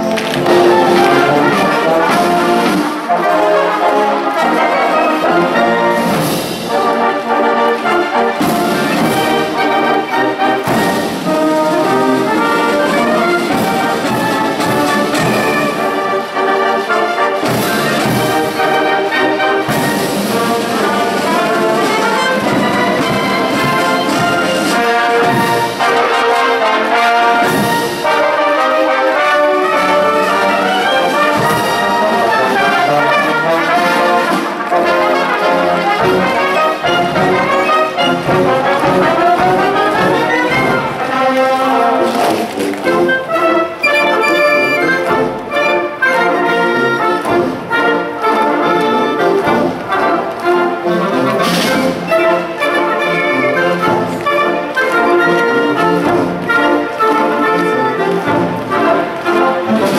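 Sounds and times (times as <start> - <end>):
marching brass band playing: 0.0 - 59.9.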